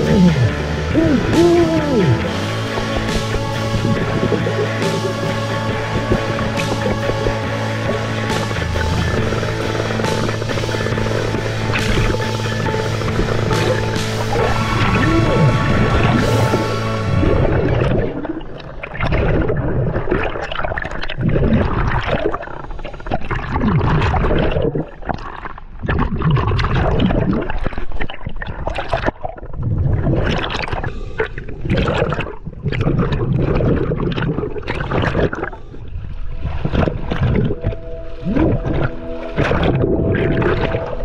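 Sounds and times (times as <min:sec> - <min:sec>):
water bubbling underwater: 0:00.0 - 0:41.0.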